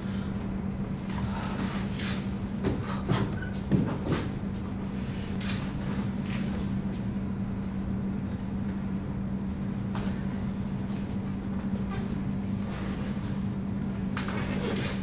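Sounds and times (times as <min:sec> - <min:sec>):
low hum and rumble: 0:00.0 - 0:15.0.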